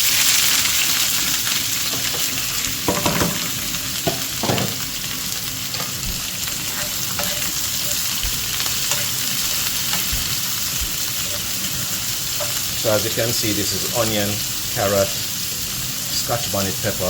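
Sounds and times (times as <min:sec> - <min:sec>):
vegetables sizzling in hot oil: 0:00.0 - 0:17.0
utensil stirring in a pan: 0:00.1 - 0:17.0.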